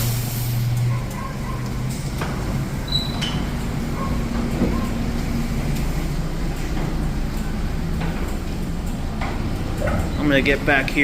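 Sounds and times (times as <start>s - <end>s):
car wash mechanical rumble: 0.0s - 11.0s.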